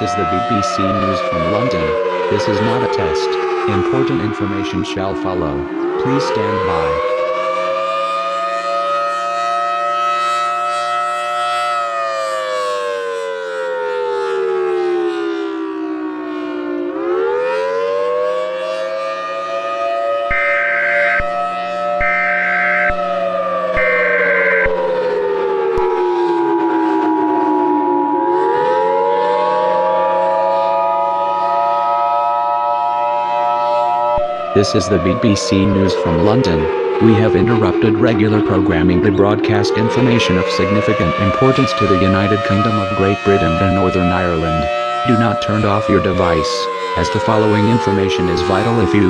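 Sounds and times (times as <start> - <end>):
civil defence siren wailing: 0.0 - 49.0.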